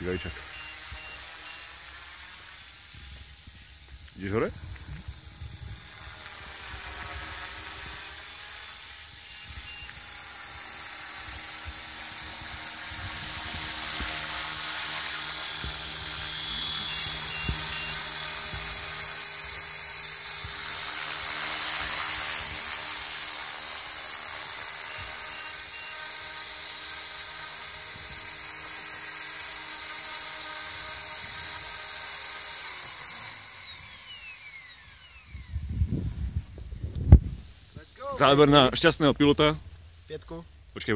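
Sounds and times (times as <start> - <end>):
model helicopter motor whine: 0.0 - 40.9
rotor buzzing: 0.0 - 40.9.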